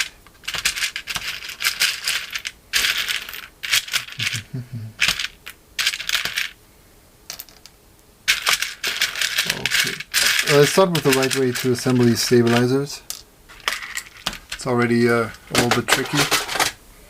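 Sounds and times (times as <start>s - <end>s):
small plastic parts clicking and rattling: 0.0s - 4.4s, 5.0s - 6.6s, 7.3s - 16.8s.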